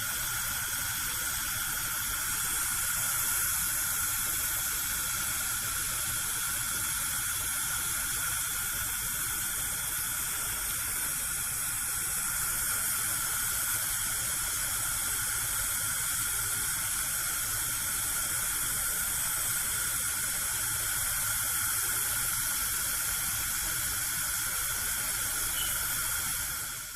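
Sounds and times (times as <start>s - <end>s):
gas burner hissing: 0.0s - 26.9s.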